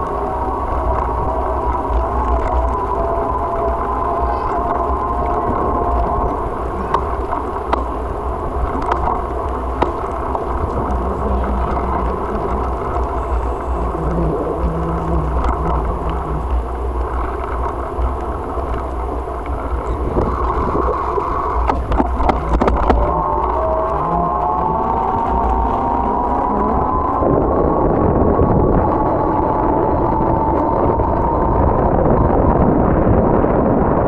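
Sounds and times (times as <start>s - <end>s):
bicycle tyres rolling on pavement: 0.0s - 34.0s
wind rushing over microphone: 0.0s - 34.0s.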